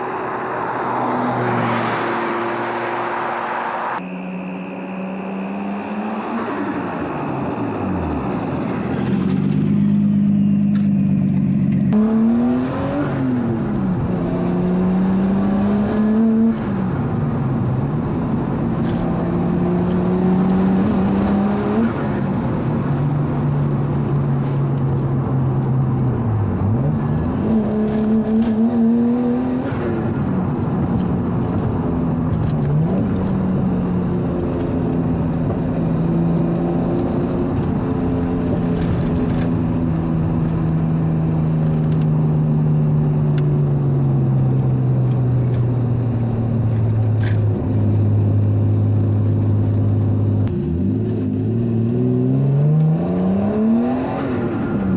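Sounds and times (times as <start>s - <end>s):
car engine accelerating hard: 0.0s - 54.9s.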